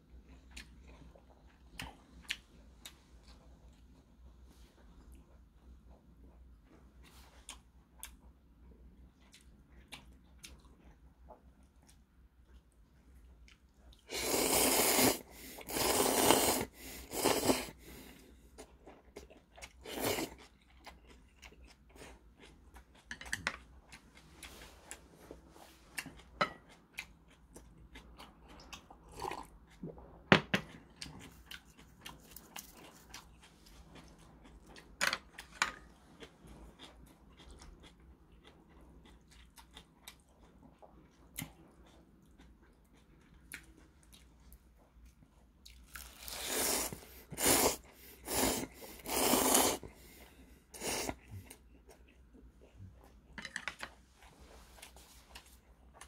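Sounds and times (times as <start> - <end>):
chewing with small smacks: 0.0 - 14.1, 17.9 - 46.2, 50.0 - 56.0.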